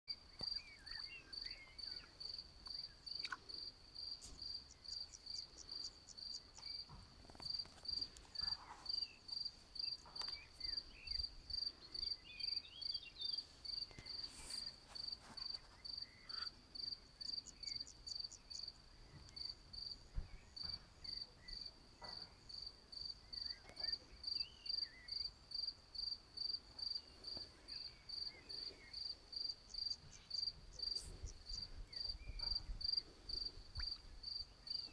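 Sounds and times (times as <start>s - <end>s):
cricket chirping: 0.1s - 34.9s
faint high insect trills: 0.1s - 34.9s.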